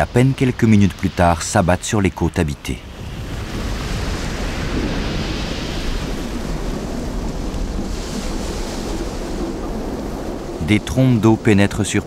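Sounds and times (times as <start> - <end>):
sea surf on rocky shore: 0.0 - 12.0
wind: 0.0 - 12.0.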